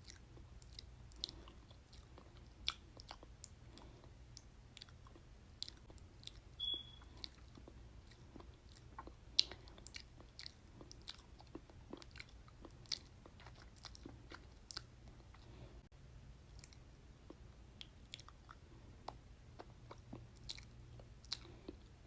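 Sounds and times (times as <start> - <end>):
lip and tongue clicks: 0.0 - 15.5, 16.5 - 22.0.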